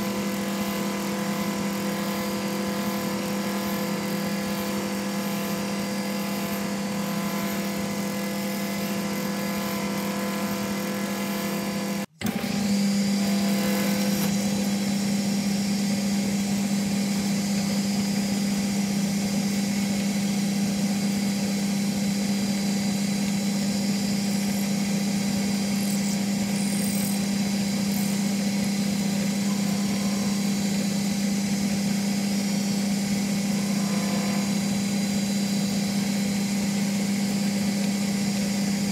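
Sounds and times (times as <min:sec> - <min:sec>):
lathe humming: 0:00.0 - 0:38.9.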